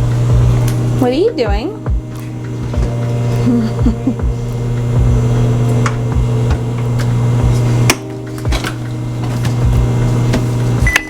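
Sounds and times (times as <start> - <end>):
household appliance humming: 0.0 - 11.0.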